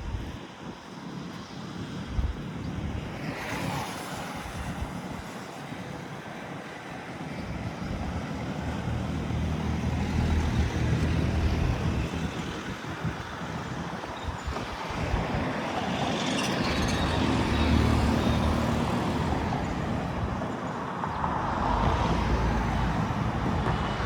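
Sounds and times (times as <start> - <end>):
wind: 0.0 - 24.0.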